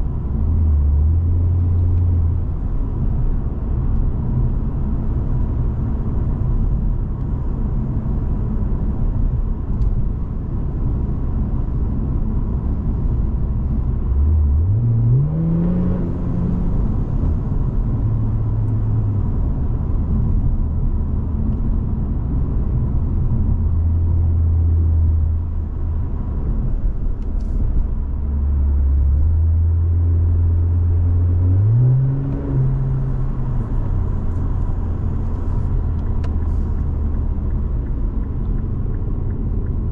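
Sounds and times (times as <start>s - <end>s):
car engine exhaust drone: 0.0s - 39.9s.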